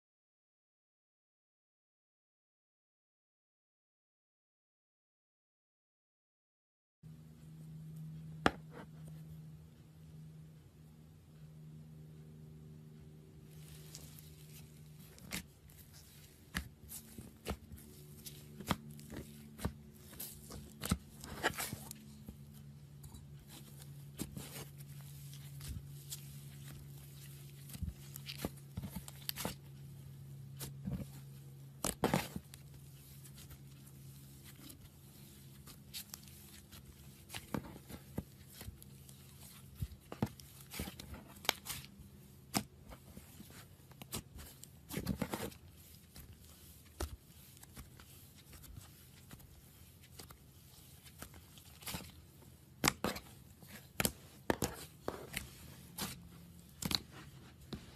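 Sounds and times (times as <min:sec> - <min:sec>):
low steady hum: 0:07.1 - 0:57.9.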